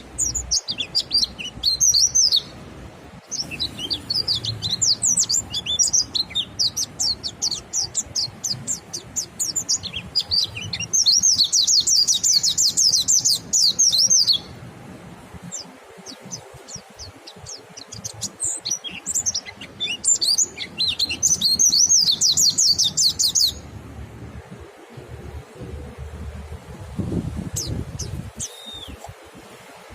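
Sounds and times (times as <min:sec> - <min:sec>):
high twittering birdsong: 0:00.0 - 0:14.7, 0:15.3 - 0:29.2.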